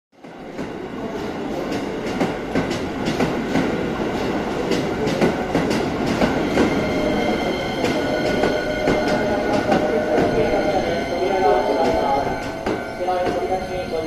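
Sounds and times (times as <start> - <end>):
train rumble: 0.2 - 14.0.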